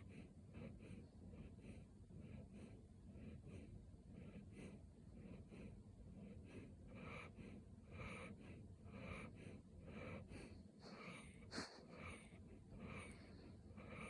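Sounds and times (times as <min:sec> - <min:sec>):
puppy snoring: 0:00.0 - 0:14.0.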